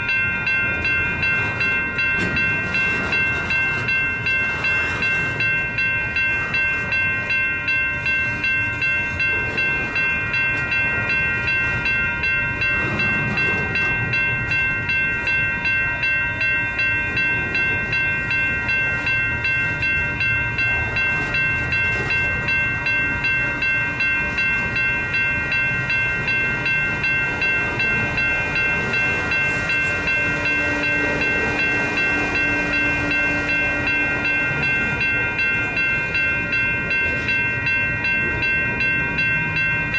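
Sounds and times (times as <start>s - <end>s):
crossing bell dinging: 0.0s - 39.9s
train wheels rumbling and clattering: 0.0s - 39.9s.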